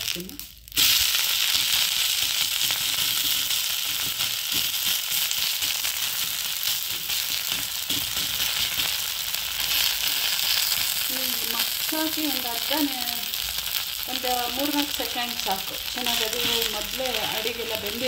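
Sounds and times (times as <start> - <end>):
dosa sizzling on hot pan: 0.0 - 18.0.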